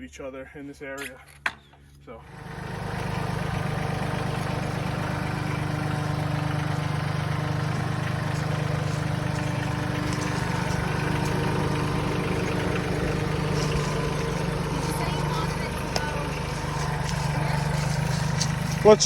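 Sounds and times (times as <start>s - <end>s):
tractor diesel engine running: 2.2s - 19.0s.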